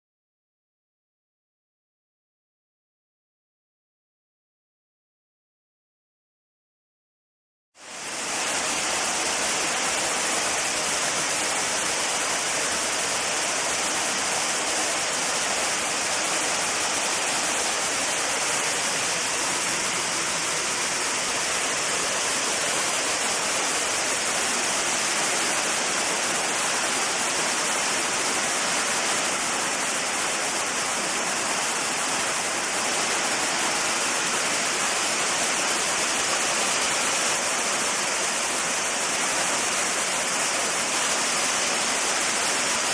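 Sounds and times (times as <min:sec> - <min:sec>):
waterfall rushing: 0:07.8 - 0:42.9.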